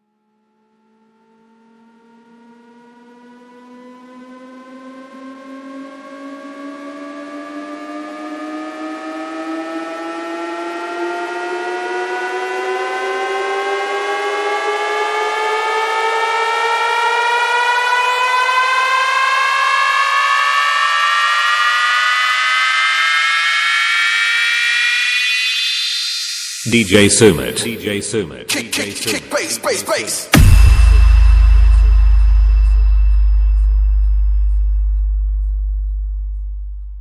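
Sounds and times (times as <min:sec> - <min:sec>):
buzzy rising siren-like tone: 0:00.4 - 0:26.7, 0:30.3 - 0:37.0.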